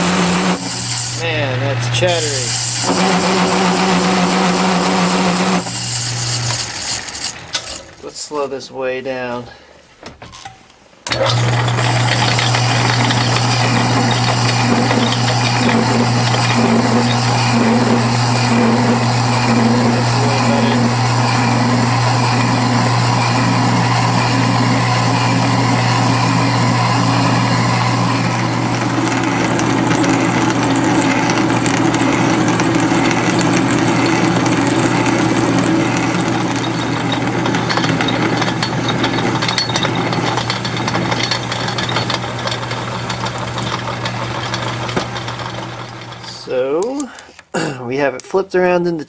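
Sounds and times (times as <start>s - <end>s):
lathe cutting tool cutting metal: 0.0s - 8.0s, 11.1s - 46.5s
motor hum: 0.0s - 8.0s, 11.1s - 46.4s.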